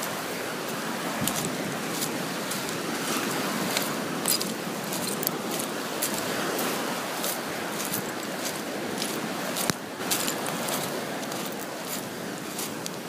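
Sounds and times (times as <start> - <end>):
small waves washing onto beach: 0.0 - 13.0.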